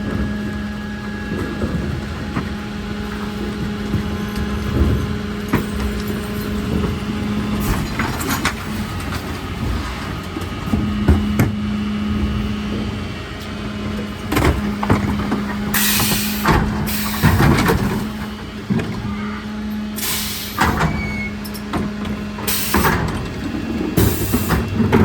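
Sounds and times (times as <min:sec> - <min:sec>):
refuse truck humming: 0:00.0 - 0:25.0
knocks and clanks: 0:01.3 - 0:13.0, 0:13.9 - 0:19.2, 0:20.0 - 0:25.0.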